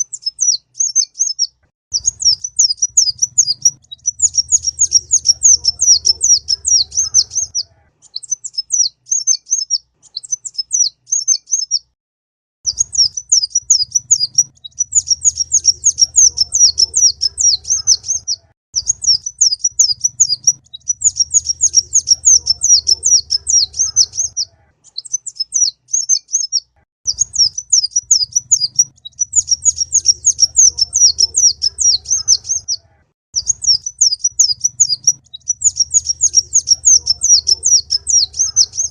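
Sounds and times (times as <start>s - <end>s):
sunbird high twittering chirps: 0.0s - 11.9s, 12.7s - 32.8s, 33.4s - 38.9s.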